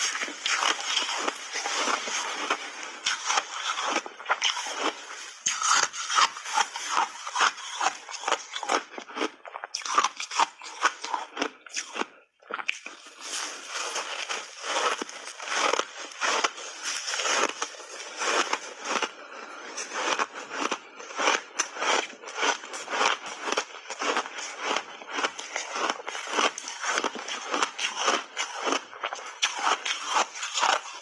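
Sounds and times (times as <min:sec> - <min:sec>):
ice being crunched and chewed: 0:00.0 - 0:31.0.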